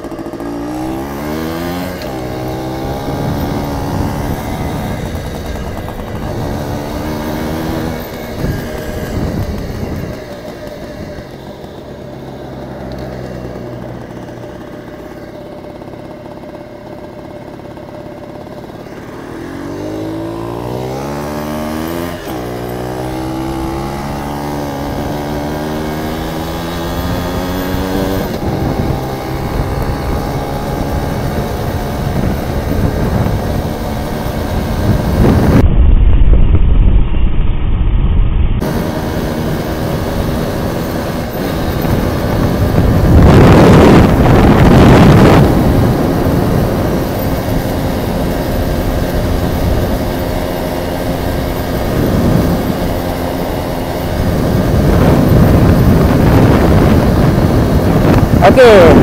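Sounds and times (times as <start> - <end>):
motorcycle engine running: 0.0 - 36.1, 38.6 - 59.0
wind rushing on microphone: 1.2 - 11.4, 21.7 - 59.0.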